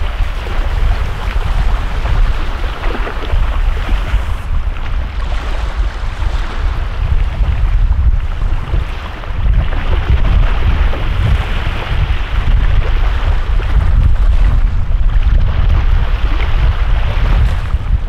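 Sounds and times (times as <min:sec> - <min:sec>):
small waves washing onto sand: 0:00.0 - 0:18.0
wind buffeting microphone: 0:00.0 - 0:18.0.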